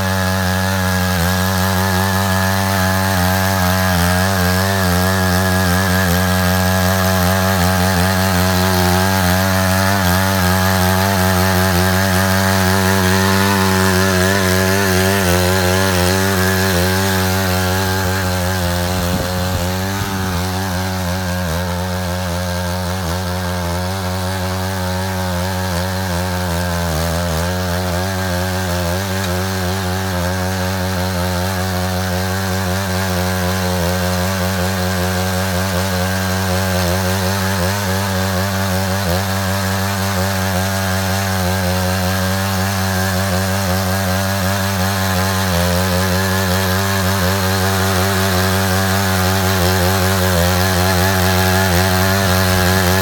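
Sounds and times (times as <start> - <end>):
power tiller engine running: 0.0 - 53.0.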